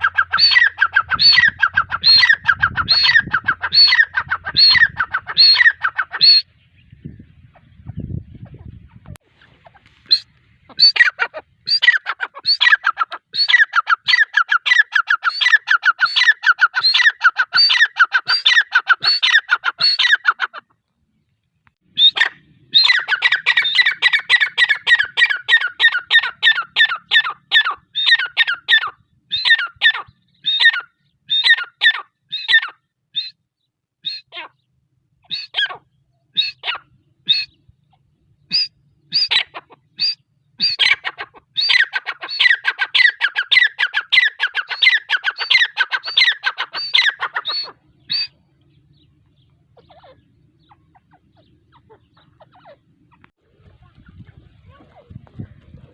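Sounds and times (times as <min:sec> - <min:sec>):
bird calling sharp repeated notes: 0:00.0 - 0:06.6, 0:09.4 - 0:20.8, 0:21.8 - 0:53.3.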